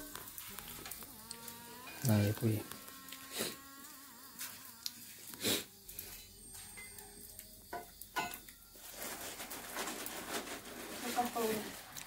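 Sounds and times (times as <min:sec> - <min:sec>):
crackers sizzling in hot oil: 0:00.0 - 0:12.0.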